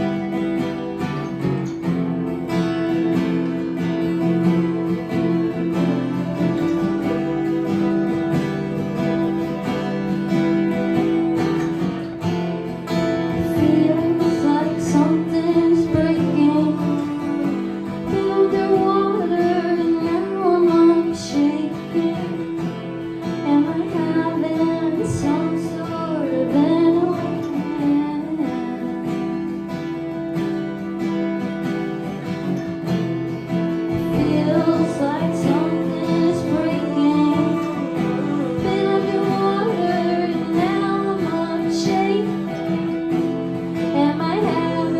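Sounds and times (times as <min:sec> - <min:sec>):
acoustic guitar strumming: 0:00.0 - 0:44.9
woman singing: 0:02.9 - 0:30.0, 0:33.5 - 0:44.9.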